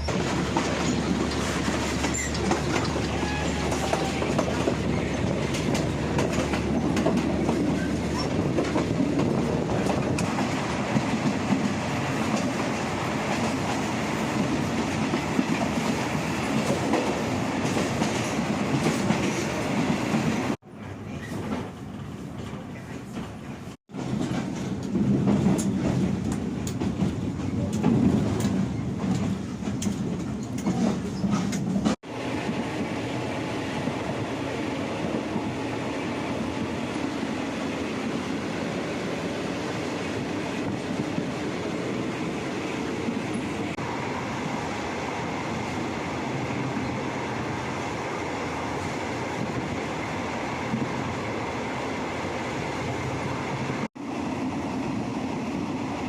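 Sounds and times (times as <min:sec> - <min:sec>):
train carriage rolling on track: 0:00.0 - 0:56.0.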